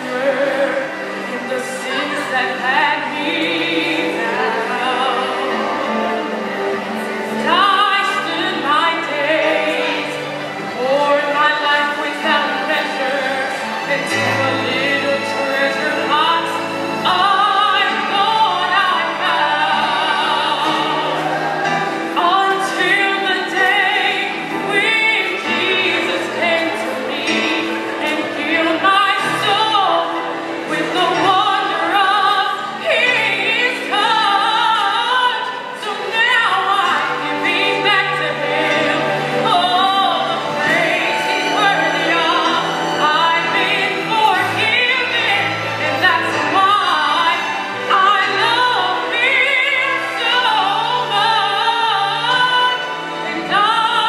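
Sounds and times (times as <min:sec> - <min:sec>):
low instrumental accompaniment: 0:00.0 - 0:54.0
woman singing with vibrato: 0:00.0 - 0:54.0.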